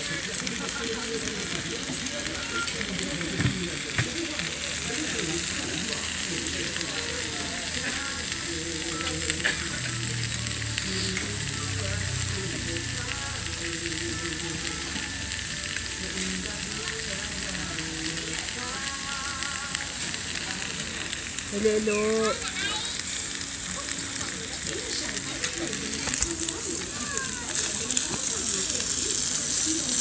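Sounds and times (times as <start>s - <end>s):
food sizzling on a grill: 0.0s - 30.0s.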